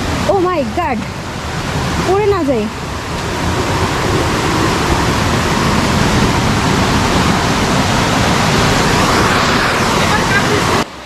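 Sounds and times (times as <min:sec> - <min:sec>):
stream cascading over rocks: 0:00.0 - 0:11.0.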